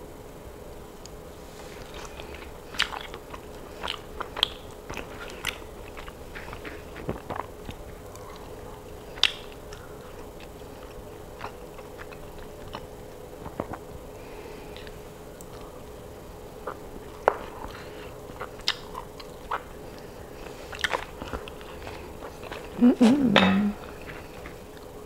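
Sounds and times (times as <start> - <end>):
faint steady hum: 0.0 - 25.0
chewing and biting mouth sounds: 1.8 - 14.0, 14.7 - 25.0.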